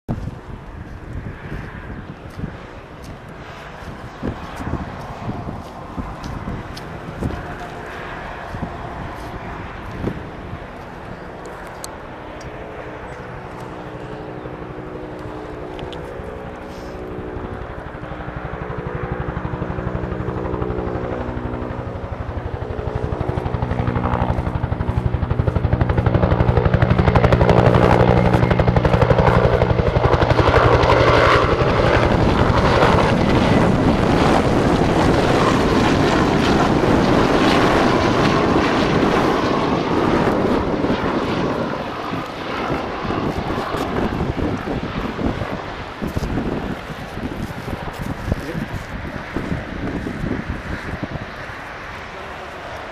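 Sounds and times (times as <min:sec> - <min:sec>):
helicopter rotor noise: 0:00.1 - 0:52.9.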